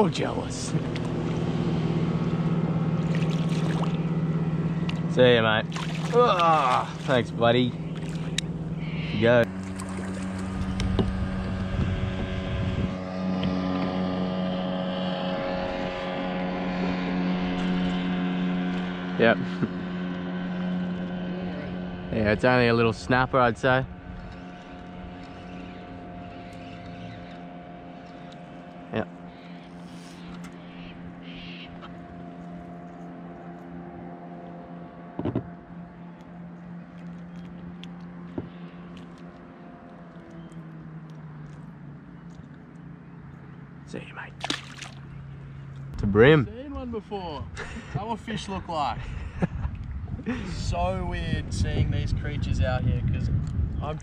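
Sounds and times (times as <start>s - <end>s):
engine hum: 0.0s - 54.0s
motor droning: 0.0s - 54.0s.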